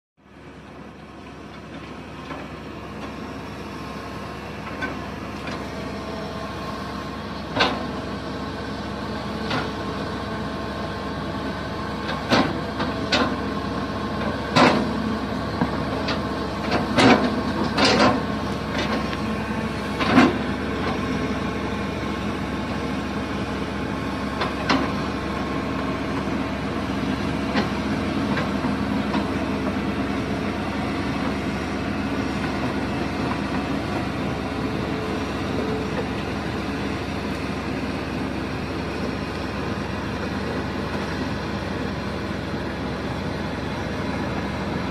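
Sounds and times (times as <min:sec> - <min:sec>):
excavator diesel engine running: 0:00.2 - 0:44.9.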